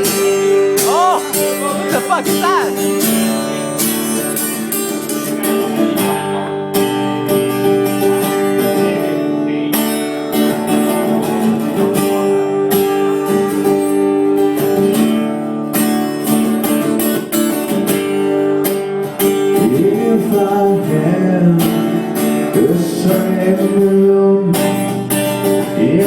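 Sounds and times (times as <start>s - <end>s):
strummed guitar: 0.0s - 26.0s.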